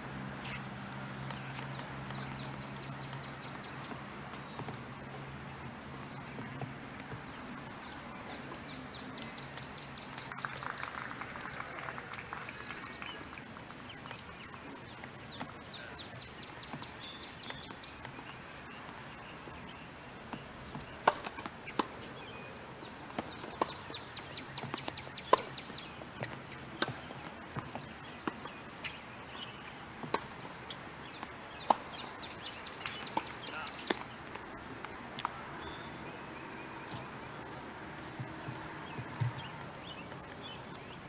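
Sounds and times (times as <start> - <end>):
outdoor hiss: 0.0 - 41.0.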